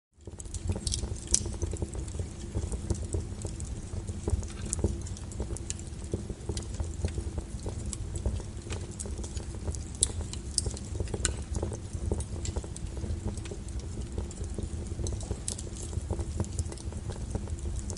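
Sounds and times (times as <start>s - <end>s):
flame rumble: 0.2s - 17.9s
wood fire crackling: 0.2s - 17.9s.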